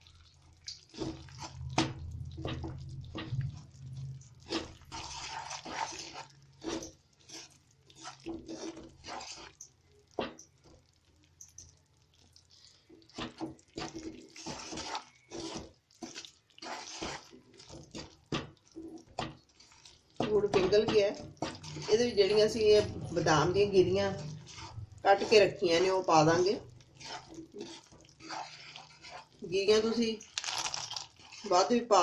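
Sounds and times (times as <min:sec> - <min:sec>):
spoon stirring and scraping a pan: 0:00.0 - 0:32.0.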